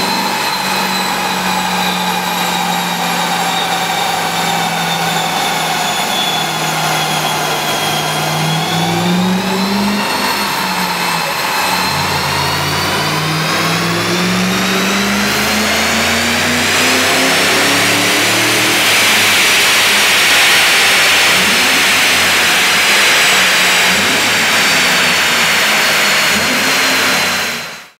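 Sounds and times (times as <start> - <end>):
rushing noise: 0.0 - 27.7
car engine revving at full load: 0.0 - 28.0
supercharger whine: 0.0 - 28.0.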